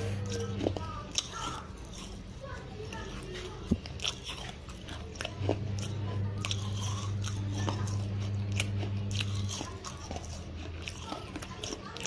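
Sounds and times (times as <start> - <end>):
crunchy chewing: 0.0 - 12.0
low steady hum: 0.0 - 12.0.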